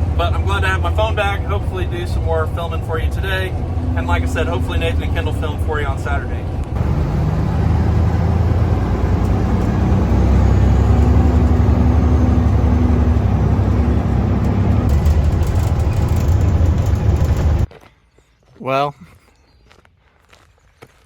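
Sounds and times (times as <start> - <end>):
road noise: 0.0 - 17.7
truck engine drone: 0.0 - 17.7.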